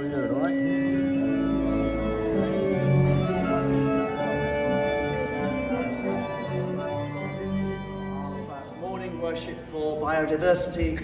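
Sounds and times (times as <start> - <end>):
church organ playing chords: 0.0 - 9.7.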